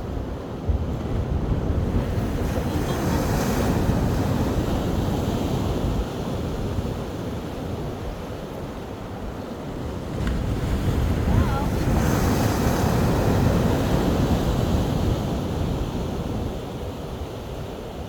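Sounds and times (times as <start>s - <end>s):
ocean surf breaking on a beach: 0.0s - 18.0s.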